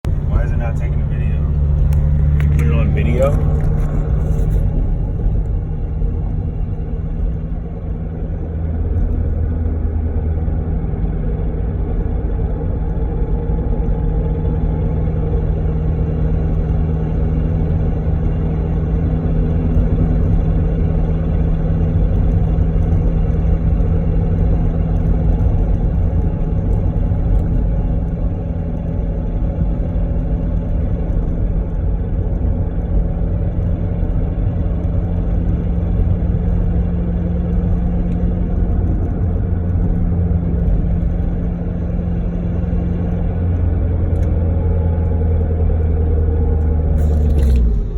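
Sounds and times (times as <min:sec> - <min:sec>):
constant hum: 0:00.0 - 0:47.9
low mechanical rumble: 0:00.0 - 0:47.9.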